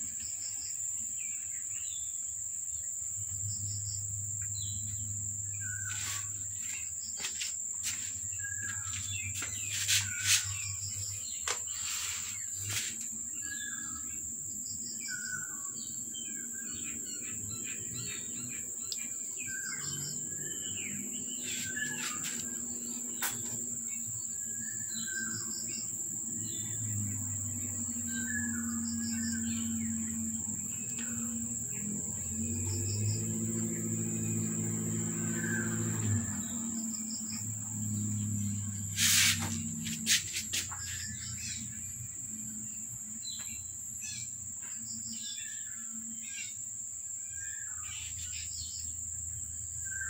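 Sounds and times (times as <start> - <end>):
insect drone: 0.0 - 50.0
small birds chirping: 0.0 - 50.0.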